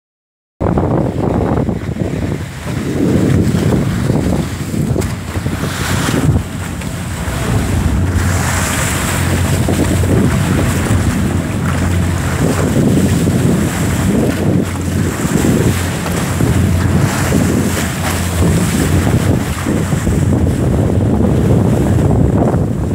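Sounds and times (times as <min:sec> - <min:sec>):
low boat hum: 0:00.6 - 0:22.9
water rushing past hull: 0:00.6 - 0:22.9
wind buffeting microphone: 0:00.6 - 0:22.9.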